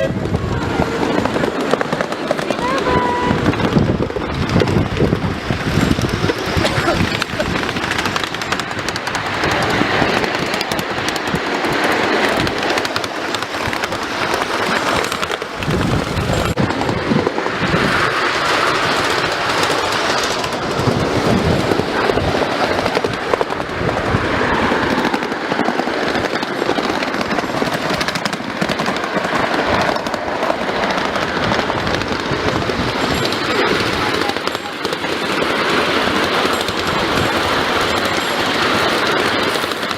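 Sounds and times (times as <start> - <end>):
train carriage rattling: 0.0 - 39.9
train wheels on track: 0.0 - 39.9.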